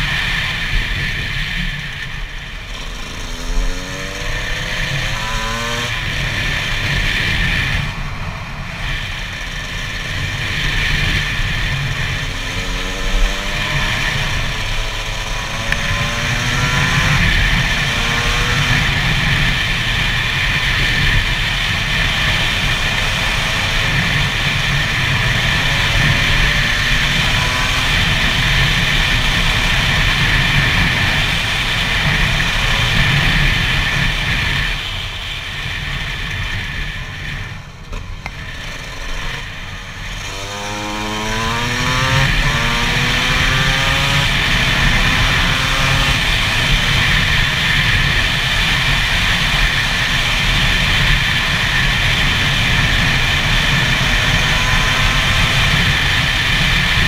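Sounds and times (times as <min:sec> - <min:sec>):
motorbike engine accelerating: 0:00.0 - 0:57.0.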